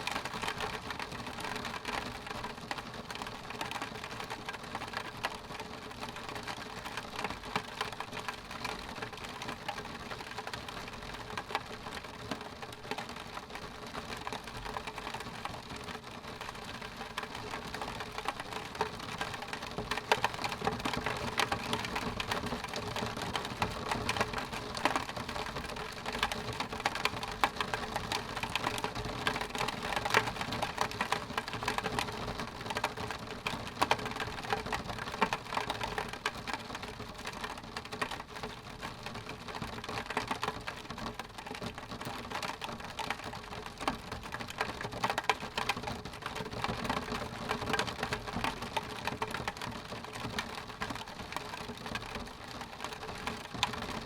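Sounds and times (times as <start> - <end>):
rain on a window pane: 0.0 - 54.0.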